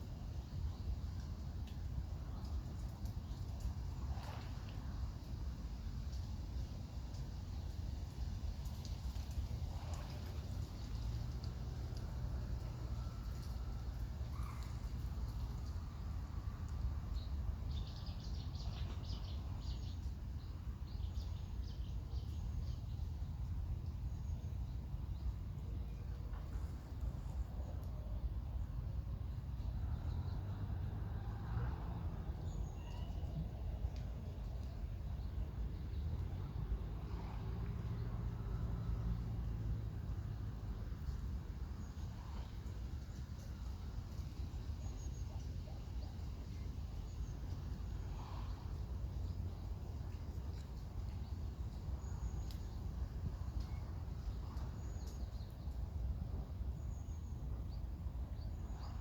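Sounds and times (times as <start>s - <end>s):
low outdoor rumble: 0.0s - 59.0s.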